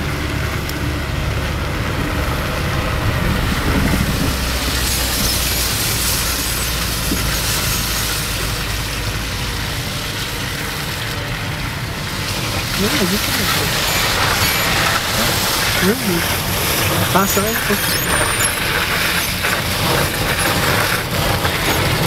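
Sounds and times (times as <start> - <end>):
car engine rumble: 0.0 - 22.0.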